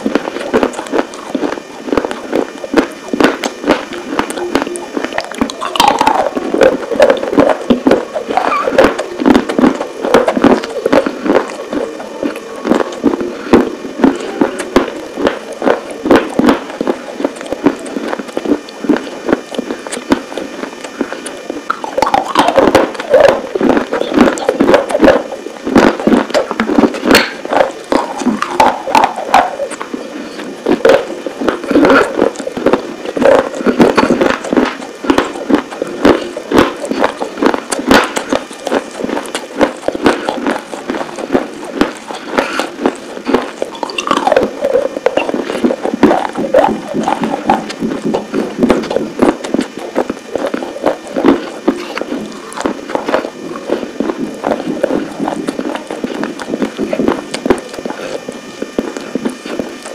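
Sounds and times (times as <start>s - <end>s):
crunchy chewing: 0.0s - 59.9s
wet mouth sounds: 0.0s - 59.9s.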